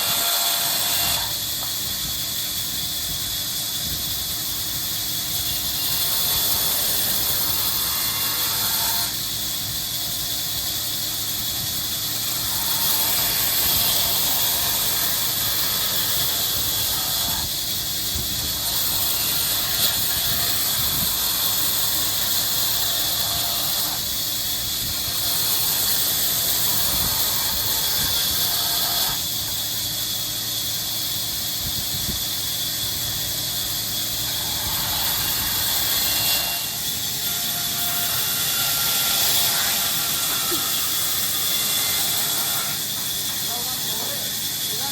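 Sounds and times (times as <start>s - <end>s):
workshop machinery hissing: 0.0s - 44.9s.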